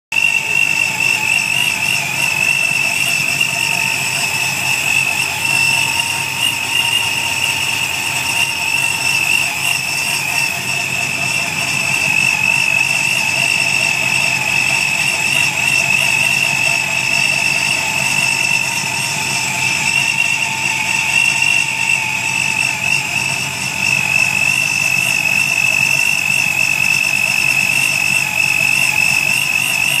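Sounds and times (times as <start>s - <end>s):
car engine idling with whine: 0.1s - 30.0s.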